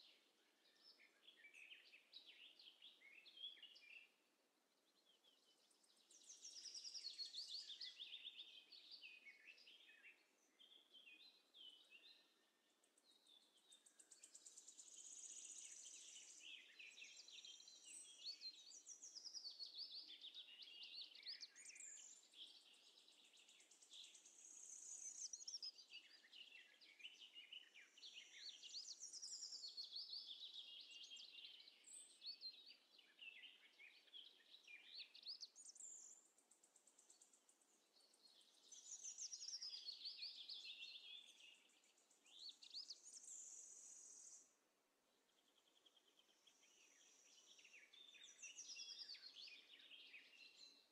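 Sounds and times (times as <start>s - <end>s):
faint songbird chorus: 0.0s - 50.9s.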